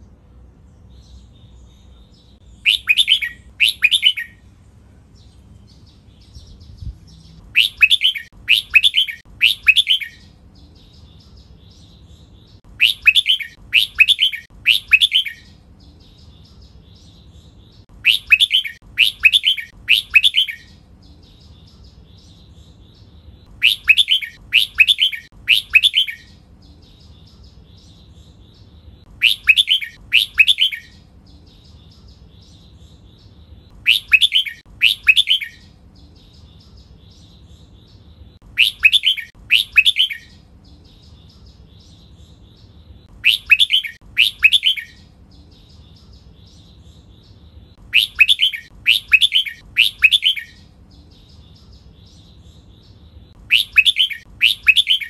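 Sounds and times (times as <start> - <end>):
bird singing loud phrases: 0.0 - 55.0
soft bird twittering: 0.7 - 4.5, 5.1 - 55.0.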